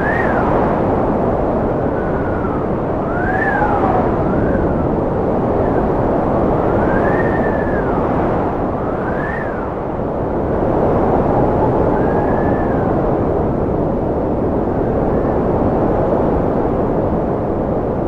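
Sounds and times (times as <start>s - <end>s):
wind howling and whistling: 0.0s - 18.0s.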